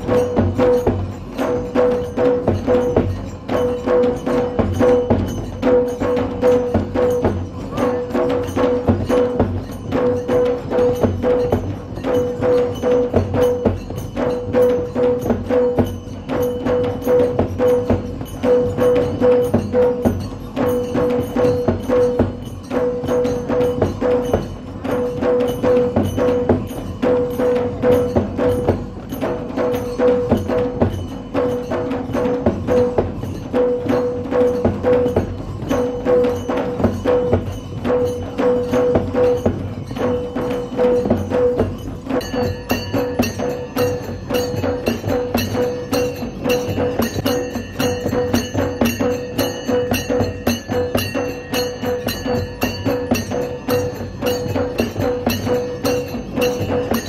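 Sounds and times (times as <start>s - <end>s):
drums beating fast rhythm: 0.0s - 57.0s.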